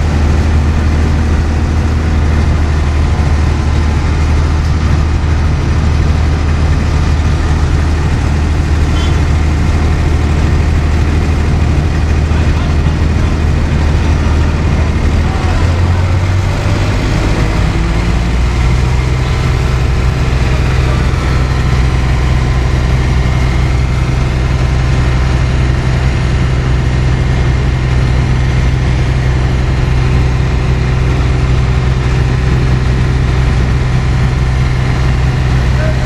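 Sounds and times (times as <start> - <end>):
crane diesel engine running: 0.0 - 36.0.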